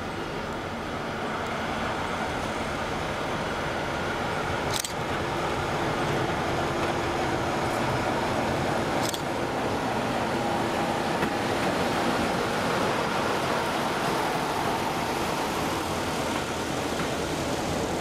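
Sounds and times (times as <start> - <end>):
diesel locomotive engine hum: 0.0 - 18.0
train wheels rumbling on rail: 0.0 - 18.0.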